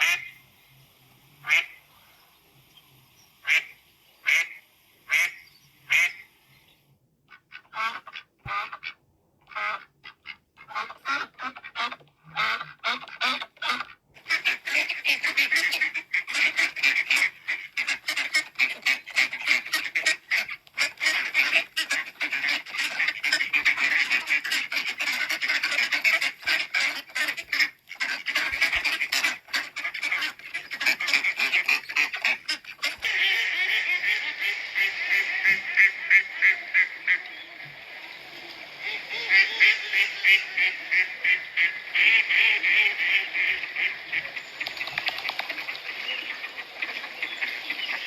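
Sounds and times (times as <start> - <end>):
geese honking: 0.0 - 0.4, 9.5 - 48.0
ducks quacking: 0.0 - 0.5, 1.4 - 1.9, 3.4 - 6.4, 7.3 - 48.0.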